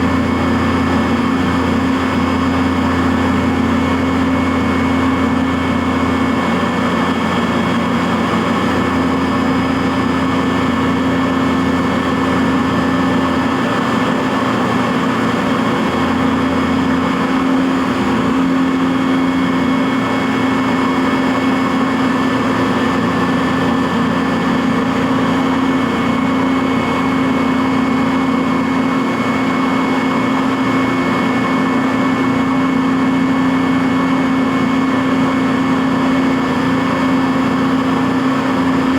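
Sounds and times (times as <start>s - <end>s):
milling machine drone and whine: 0.0s - 38.9s.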